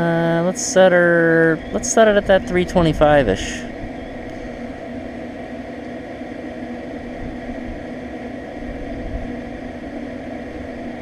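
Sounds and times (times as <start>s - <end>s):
grill fan humming: 0.0s - 11.0s.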